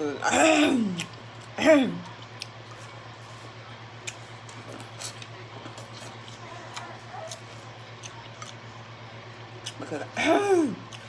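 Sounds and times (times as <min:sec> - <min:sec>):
steady low hum: 0:00.0 - 0:11.0
person chewing food: 0:00.8 - 0:08.8, 0:09.6 - 0:11.0.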